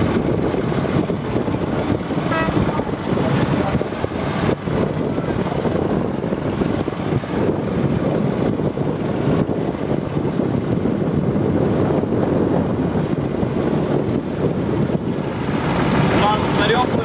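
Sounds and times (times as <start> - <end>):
motorboat engine running: 0.0 - 17.0
water rushing past hull: 0.0 - 17.0.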